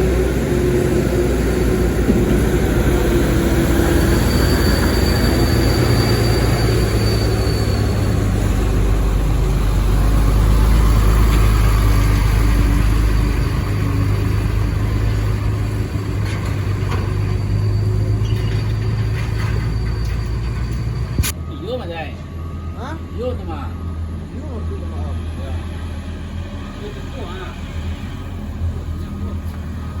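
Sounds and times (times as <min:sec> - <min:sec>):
truck diesel engine rumbling: 0:00.0 - 0:30.0.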